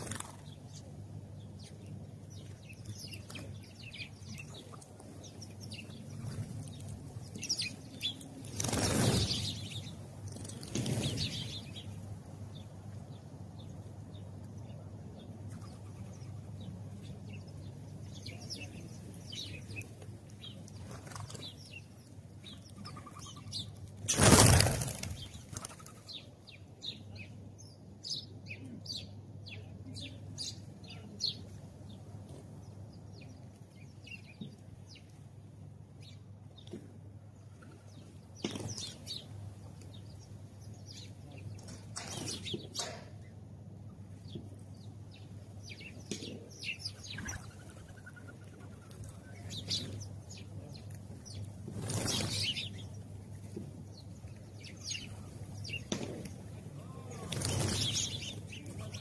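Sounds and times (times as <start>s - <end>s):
faint low hum: 0.0s - 59.0s
sparrows chirping: 0.0s - 59.0s.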